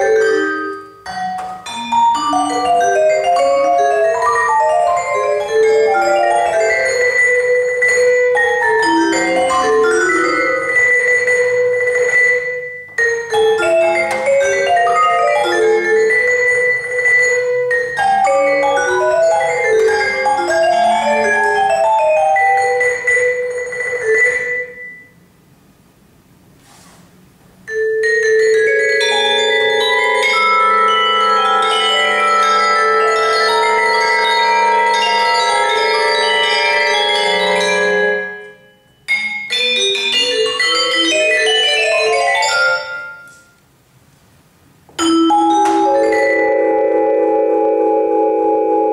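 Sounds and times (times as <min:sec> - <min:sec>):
vibraphone played with mallets: 0:00.0 - 0:25.3, 0:27.6 - 0:43.6, 0:45.0 - 0:48.9.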